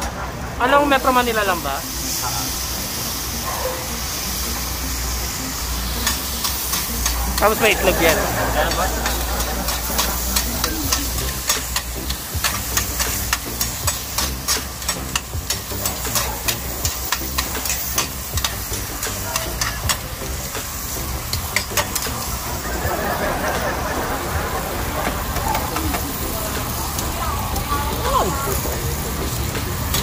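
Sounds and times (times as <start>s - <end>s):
food sizzling on a hot plate: 0.4s - 30.0s.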